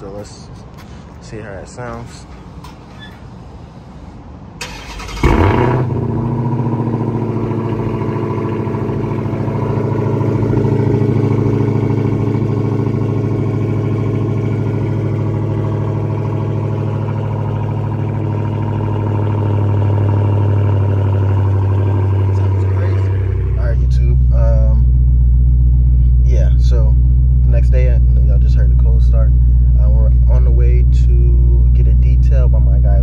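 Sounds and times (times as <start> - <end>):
car engine idling: 4.6 - 33.0
car engine starting: 4.6 - 33.0.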